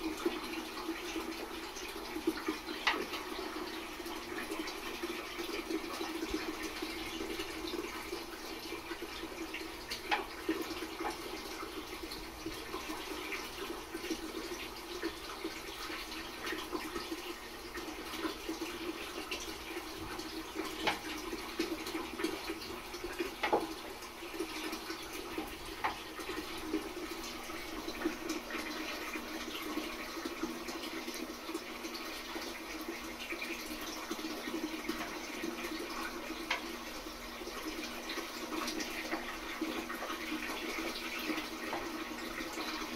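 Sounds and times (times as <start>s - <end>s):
aquarium water burbling: 0.0s - 42.9s.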